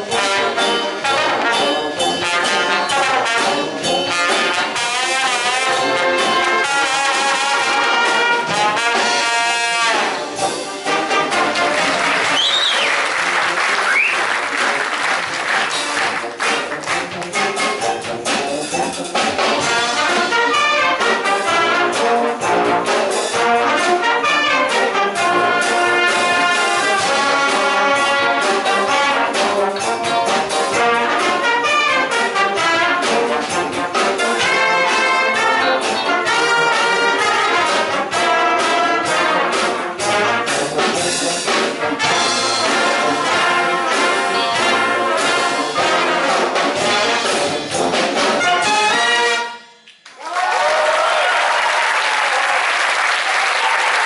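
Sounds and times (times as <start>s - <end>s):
wind band playing: 0.0s - 49.8s
brass instruments: 0.0s - 54.0s.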